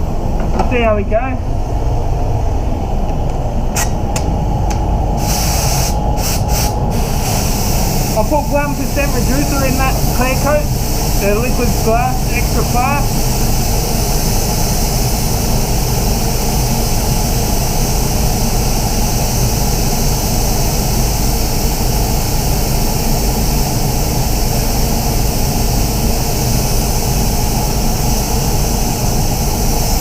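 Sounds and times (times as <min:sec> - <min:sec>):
rushing air in spray booth: 0:00.0 - 0:30.0.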